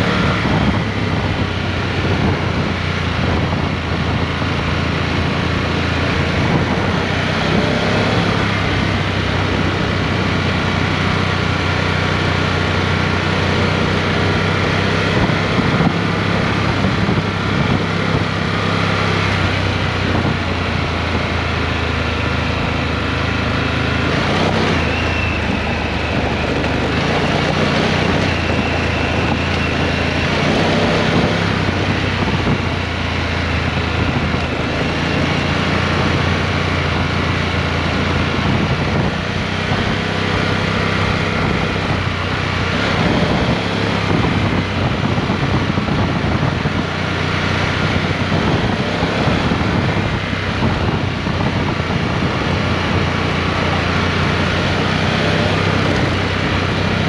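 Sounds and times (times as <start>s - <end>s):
motorcycle engine cruising: 0.0s - 57.0s
tyre and wind noise: 0.0s - 57.0s.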